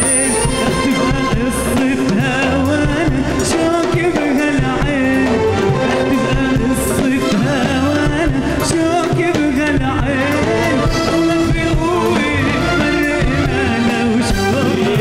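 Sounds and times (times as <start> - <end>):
bass guitar: 0.0 - 15.0
drum kit: 0.0 - 15.0
man singing into microphone: 0.0 - 15.0.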